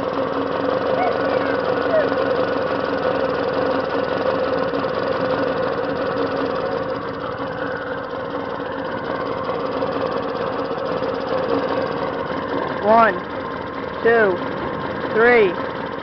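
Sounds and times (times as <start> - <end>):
moped engine idling: 0.0 - 16.0.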